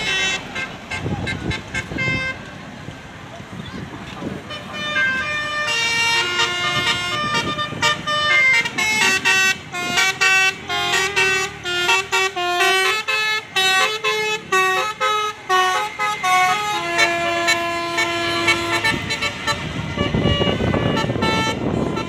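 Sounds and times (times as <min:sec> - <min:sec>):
multi-tone bus horn melody: 0:00.0 - 0:02.5, 0:04.3 - 0:22.0
bus passing: 0:00.0 - 0:22.0.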